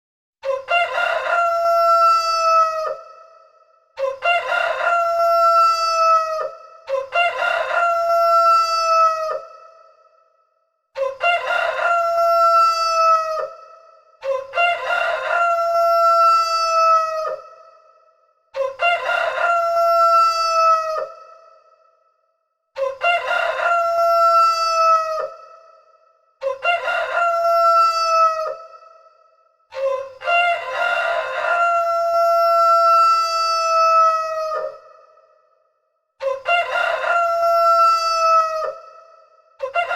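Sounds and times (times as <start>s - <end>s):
rooster crowing: 0.4s - 3.3s, 4.0s - 9.7s, 11.0s - 17.8s, 18.6s - 21.5s, 22.8s - 25.6s, 26.4s - 29.0s, 29.8s - 35.2s, 36.2s - 39.9s.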